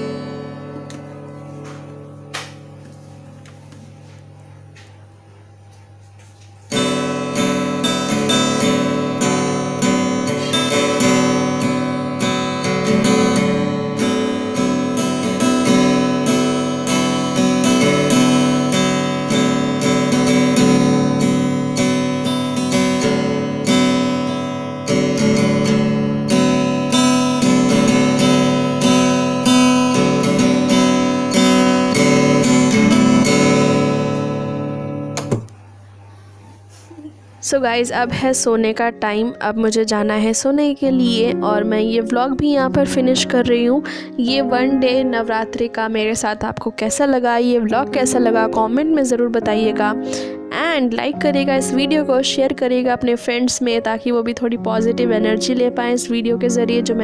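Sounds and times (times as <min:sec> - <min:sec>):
acoustic guitar strumming: 0:00.0 - 0:36.8, 0:37.4 - 0:57.0.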